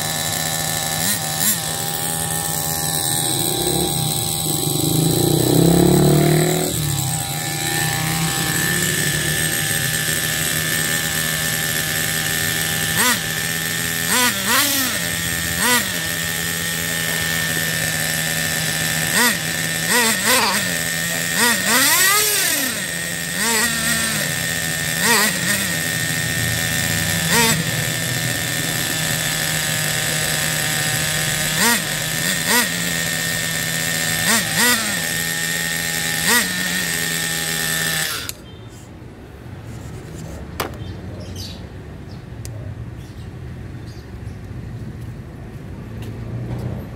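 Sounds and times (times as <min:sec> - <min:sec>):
small nitro engine idling and revving: 0:00.0 - 0:46.9.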